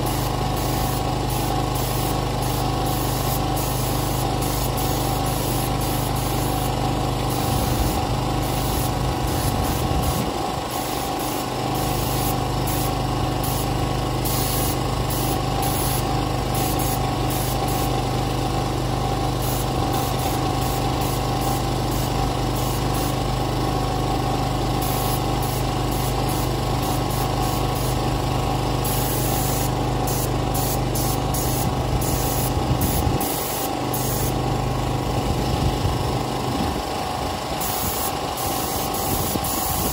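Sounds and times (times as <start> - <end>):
generator engine running: 0.0 - 39.9
paint spray gun hissing: 0.0 - 39.9.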